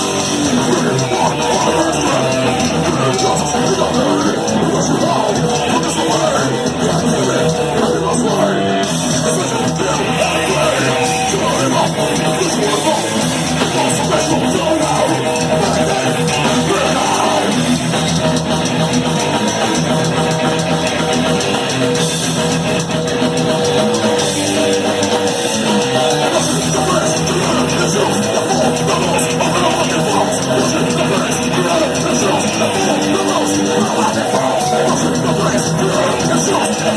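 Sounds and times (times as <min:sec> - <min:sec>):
metal band playing live: 0:00.0 - 0:36.9.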